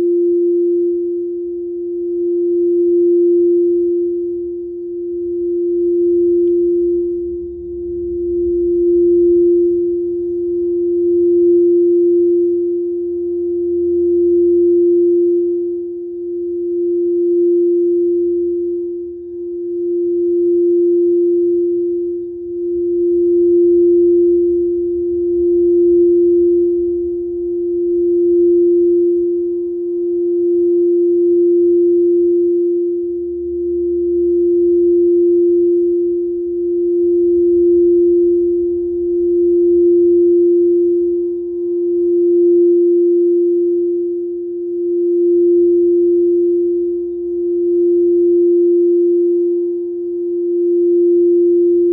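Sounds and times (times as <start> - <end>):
singing bowl steady tone: 0.0 - 51.9.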